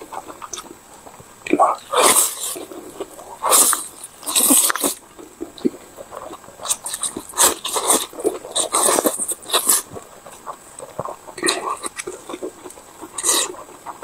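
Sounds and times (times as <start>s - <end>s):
chewing: 0.0s - 14.0s
slurping noodles: 1.7s - 5.0s, 5.6s - 14.0s.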